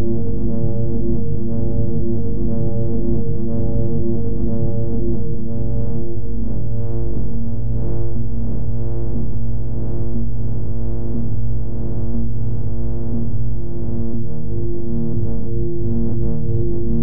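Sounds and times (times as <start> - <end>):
low synthesized drone: 0.0 - 17.0.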